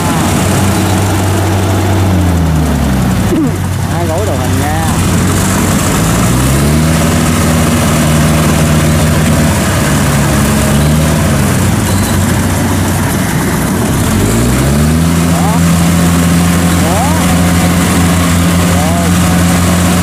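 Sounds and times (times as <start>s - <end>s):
tracked vehicle engine revving: 0.0s - 20.0s
tracks churning mud: 0.0s - 20.0s.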